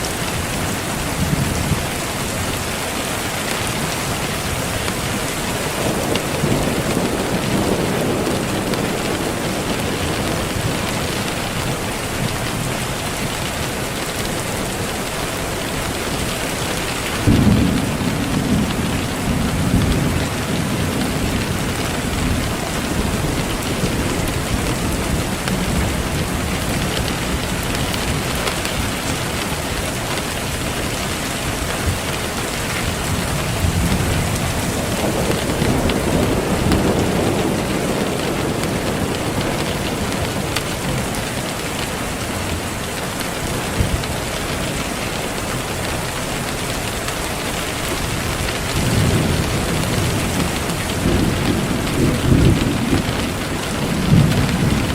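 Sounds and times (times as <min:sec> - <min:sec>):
steady rain: 0:00.0 - 0:54.9
thunder rumbling: 0:00.0 - 0:54.9.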